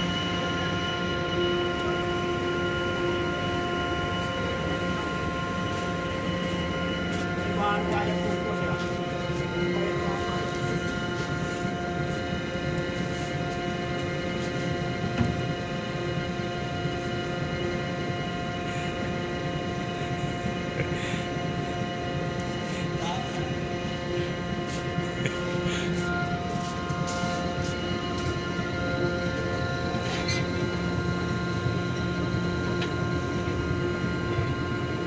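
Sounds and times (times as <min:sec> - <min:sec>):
ship machinery droning: 0:00.0 - 0:35.0.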